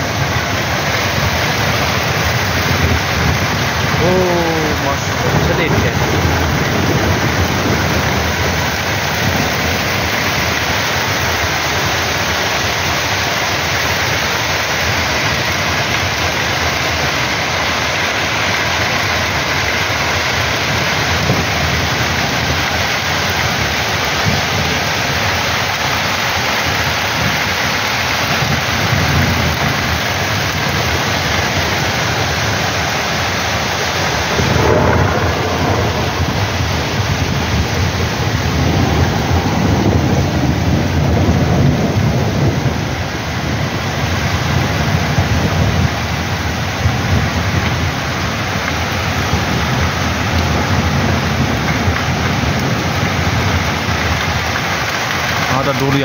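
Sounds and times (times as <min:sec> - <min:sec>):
heavy rain on a street: 0:00.0 - 0:56.0
thunder rumbling: 0:00.0 - 0:56.0.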